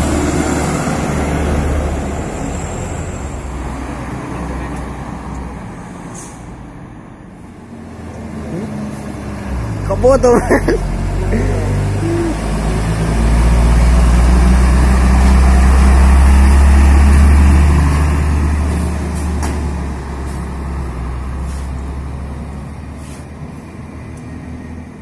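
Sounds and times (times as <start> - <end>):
heavy diesel truck driving past: 0.0 - 25.0.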